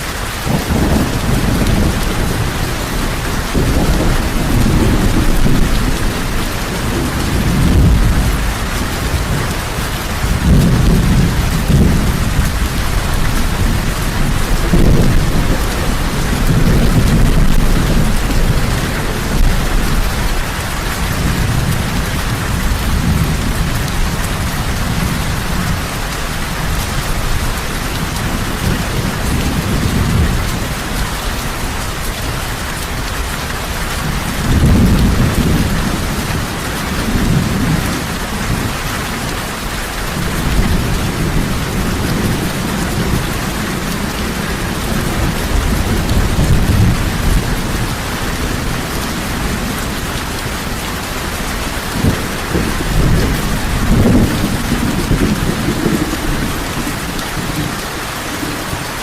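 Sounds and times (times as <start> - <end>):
heavy rain falling: 0.0 - 59.0
thunder rumbling: 0.0 - 59.0.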